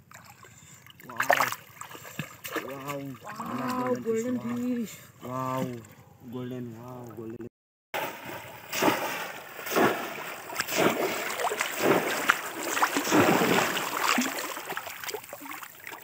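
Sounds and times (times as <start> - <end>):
floodwater splashing and surging: 0.0 - 5.8, 8.0 - 16.0.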